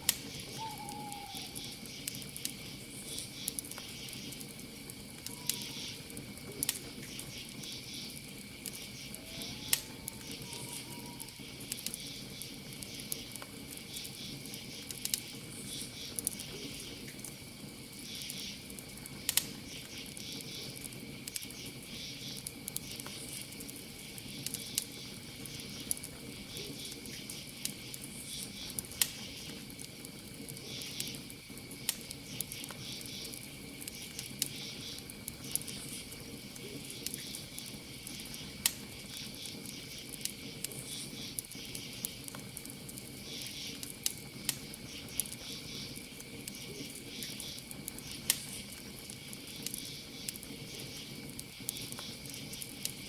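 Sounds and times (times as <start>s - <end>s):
campfire crackling and popping: 0.0s - 53.0s
crickets chirping: 0.1s - 53.0s.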